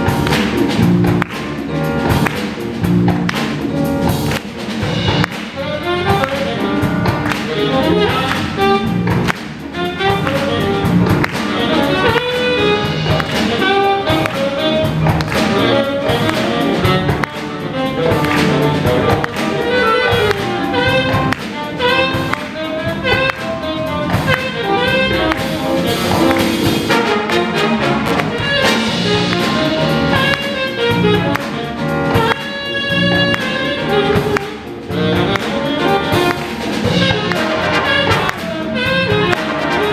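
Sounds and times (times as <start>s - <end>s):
jazz big band playing: 0.0s - 39.9s
trumpets and trombones: 3.8s - 39.9s
saxophone solo: 5.0s - 39.9s.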